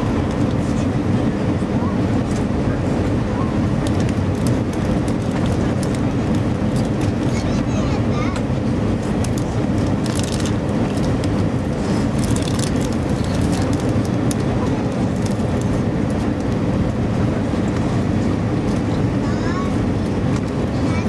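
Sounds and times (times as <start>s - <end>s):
jet engines and airflow rushing: 0.0s - 21.0s.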